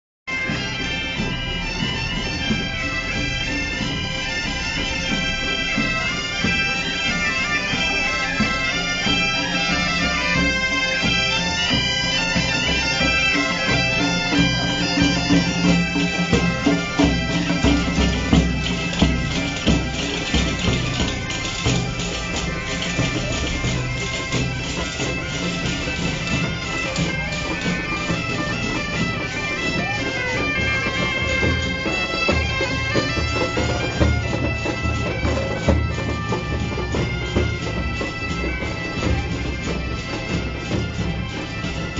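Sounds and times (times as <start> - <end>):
bagpipes playing folk tune: 0.3 - 41.9
percussion beats with tambourines: 0.3 - 41.9.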